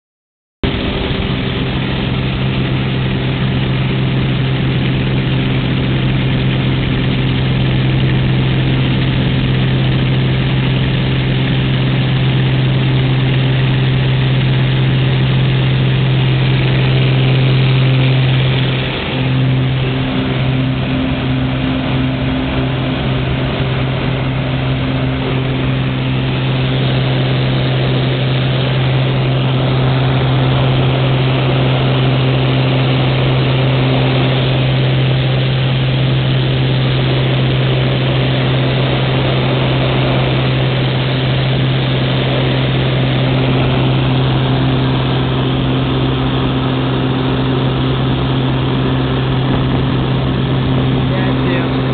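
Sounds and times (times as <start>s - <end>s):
seaplane engine and propeller drone: 0.6s - 51.9s.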